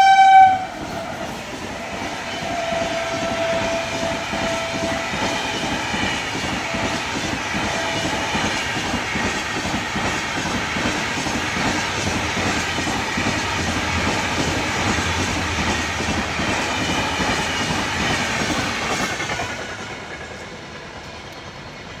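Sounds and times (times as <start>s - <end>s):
train wheels clacking on rails: 0.0s - 22.0s.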